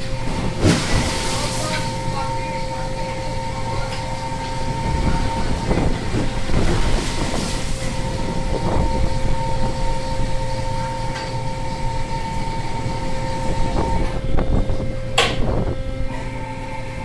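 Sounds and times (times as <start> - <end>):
humming tones: 0.0 - 17.0
low engine rumble: 0.0 - 17.0.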